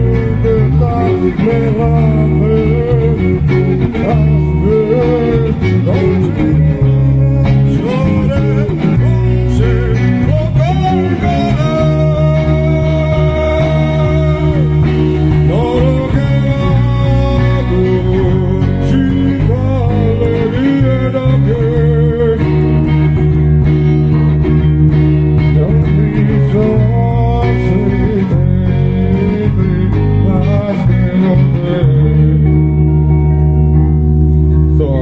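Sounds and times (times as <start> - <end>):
person singing: 0.0 - 23.6, 24.2 - 33.7
guitar: 0.0 - 35.0
sustained bass notes: 0.0 - 35.0.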